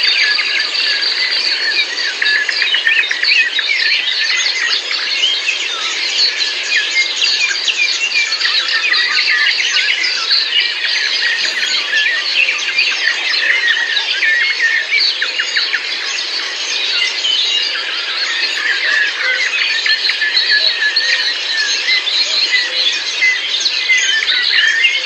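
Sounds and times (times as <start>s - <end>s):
chorus of birds chirping: 0.0s - 25.0s.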